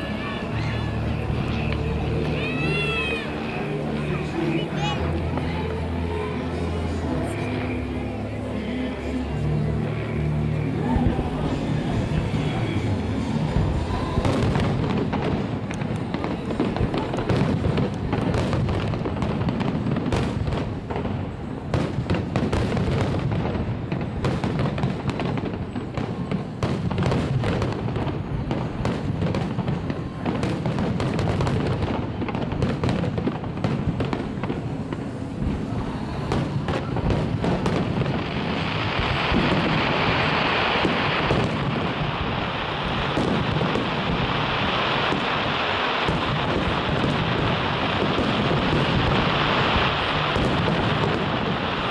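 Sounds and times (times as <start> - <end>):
fireworks bursts and bangs: 0.0 - 51.9.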